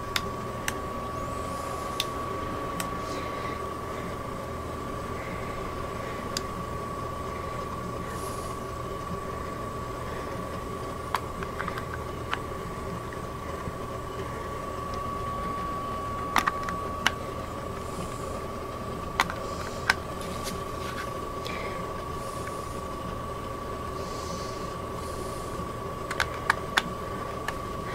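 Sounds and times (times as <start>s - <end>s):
steady hum: 0.0s - 27.9s
thin high whine: 0.0s - 27.9s.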